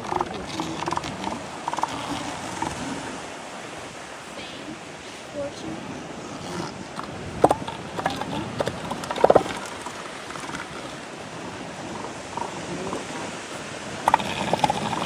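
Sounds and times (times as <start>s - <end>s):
sea lions calling: 0.0s - 15.0s
surf: 0.0s - 15.0s
wind: 0.0s - 15.0s.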